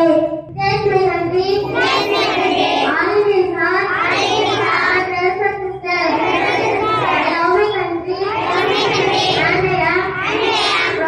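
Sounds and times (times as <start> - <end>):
children singing a prayer: 0.9 - 11.0.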